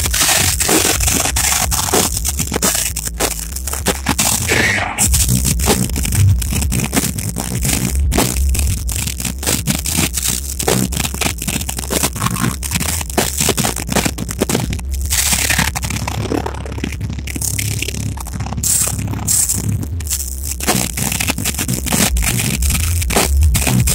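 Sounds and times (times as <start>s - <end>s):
distorted crackling: 0.0s - 23.9s
drums: 0.0s - 23.9s.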